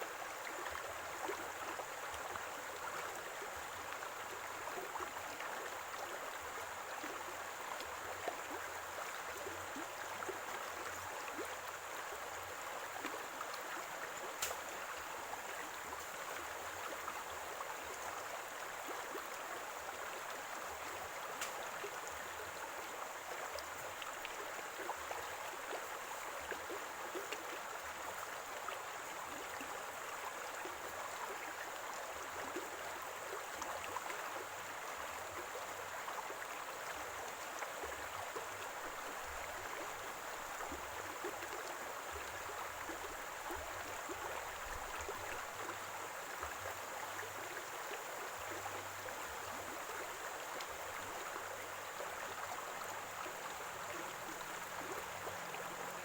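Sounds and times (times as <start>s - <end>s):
stream water gurgling: 0.0s - 56.0s.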